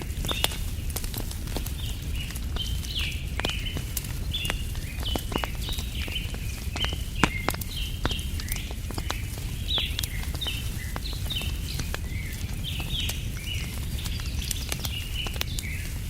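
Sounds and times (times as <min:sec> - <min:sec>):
small birds chirping: 0:00.0 - 0:16.0
wood fire crackling: 0:00.0 - 0:16.0.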